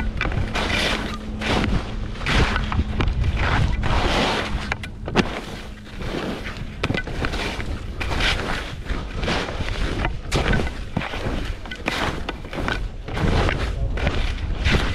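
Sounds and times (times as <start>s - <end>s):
skis scraping over snow: 0.0s - 14.9s
wind buffeting microphone: 0.0s - 14.9s.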